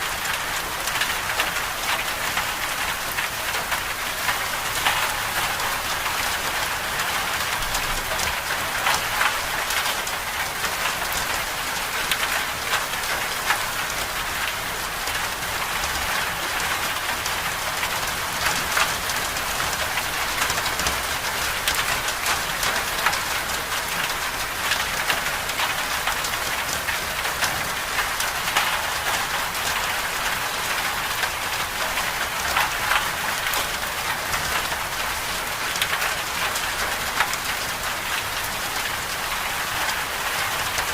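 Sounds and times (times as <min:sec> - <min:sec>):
rain hissing on a surface: 0:00.0 - 0:40.9.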